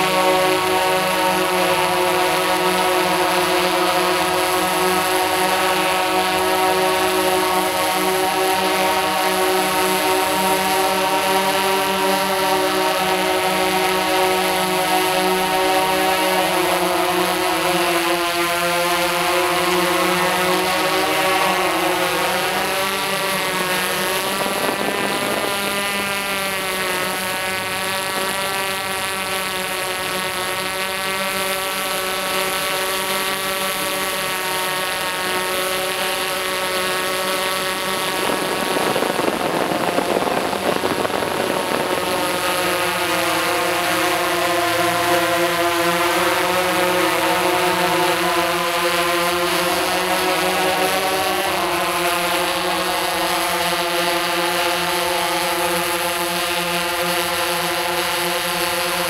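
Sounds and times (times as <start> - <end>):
drone propellers whirring: 0.0 - 59.0.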